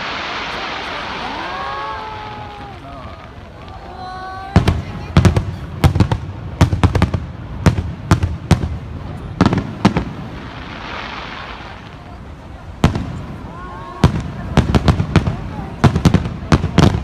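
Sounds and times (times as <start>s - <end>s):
fireworks booming: 0.0s - 17.0s
soft hiss: 0.0s - 17.0s.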